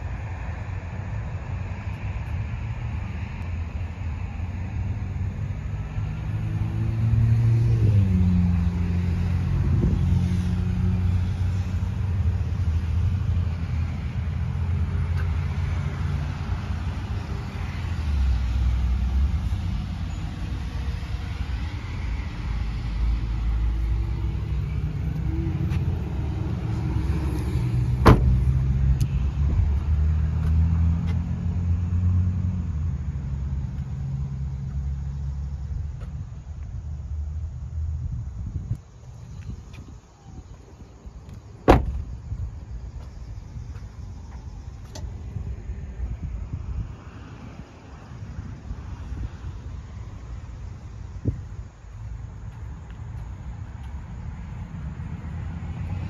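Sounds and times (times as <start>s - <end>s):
vehicle engines rumbling: 0.0s - 56.0s.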